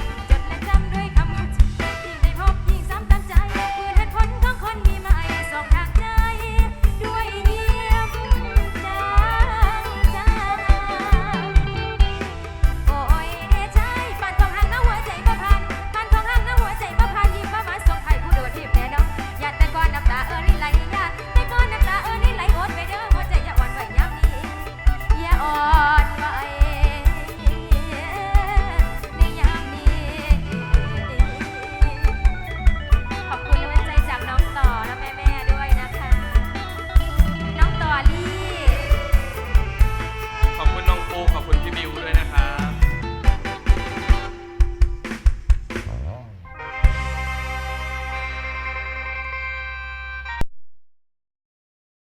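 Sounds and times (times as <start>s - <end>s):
wavering lead melody: 0.0s - 45.0s, 45.8s - 50.3s
fast drum beat: 0.0s - 48.0s
live band music: 0.0s - 50.4s.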